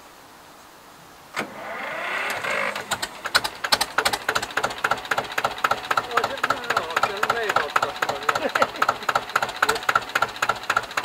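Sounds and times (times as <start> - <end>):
tractor engine clunk: 1.3 - 11.0
engine cranking whir: 1.4 - 11.0
tractor engine running unevenly: 1.4 - 11.0.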